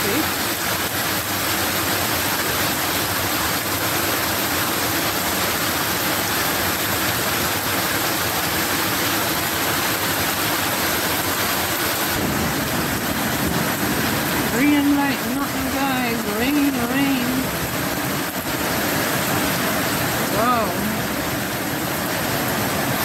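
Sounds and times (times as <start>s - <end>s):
heavy rain pouring: 0.0s - 23.0s
runoff water over gravel: 0.0s - 23.0s.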